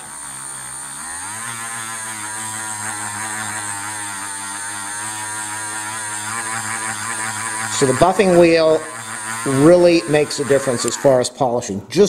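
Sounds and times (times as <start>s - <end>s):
rotary tool motor whine: 0.0s - 11.6s.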